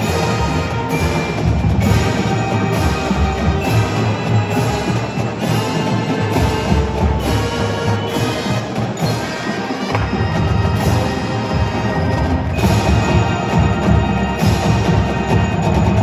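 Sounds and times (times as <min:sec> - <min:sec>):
pep band playing: 0:00.0 - 0:16.0
steady drum beat: 0:00.0 - 0:16.0.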